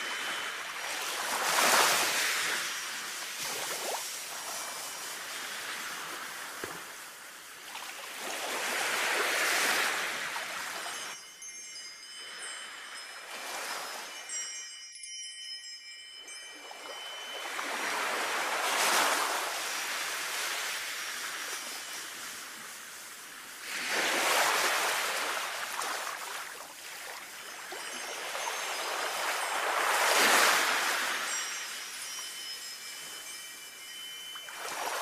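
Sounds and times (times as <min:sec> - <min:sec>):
wind chimes ringing: 0:00.0 - 0:06.6, 0:08.9 - 0:23.9, 0:26.4 - 0:35.0
sea waves washing up: 0:00.0 - 0:11.2, 0:17.3 - 0:35.0.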